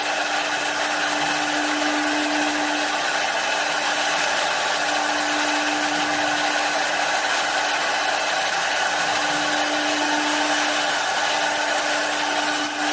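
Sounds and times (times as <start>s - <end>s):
lathe motor tone: 0.0s - 12.9s.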